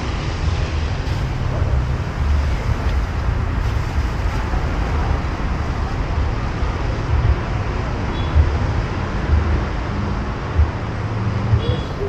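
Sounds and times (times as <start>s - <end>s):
road traffic low rumble: 0.0s - 12.0s.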